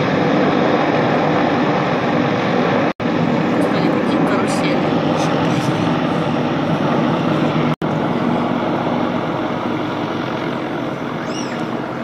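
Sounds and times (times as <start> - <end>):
helicopter flying past: 0.0 - 12.0.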